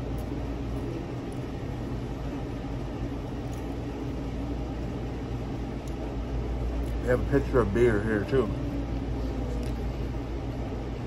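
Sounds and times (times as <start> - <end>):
restaurant background hum: 0.0 - 11.0.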